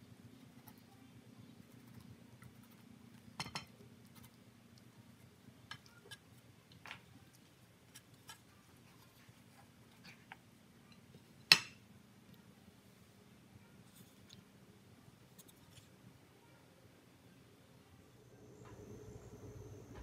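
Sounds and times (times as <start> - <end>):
faint low room hum: 0.0 - 20.0.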